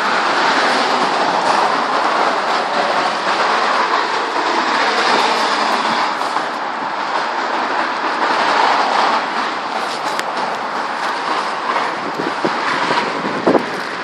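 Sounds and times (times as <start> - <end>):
strong wind rushing: 0.0 - 14.0.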